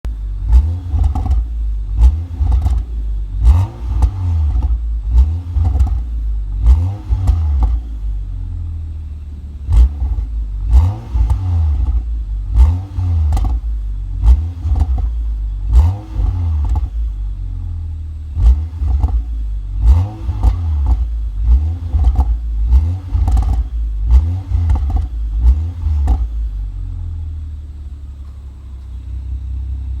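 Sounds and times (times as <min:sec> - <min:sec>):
exhaust crackles and pops: 0:00.0 - 0:08.5, 0:09.4 - 0:17.4, 0:18.2 - 0:26.8
car engine revving: 0:00.1 - 0:28.1.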